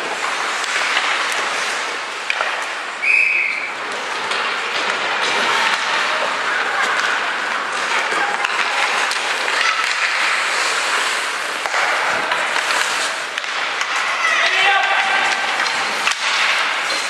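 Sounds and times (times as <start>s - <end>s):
skates scraping on ice: 0.0s - 17.0s.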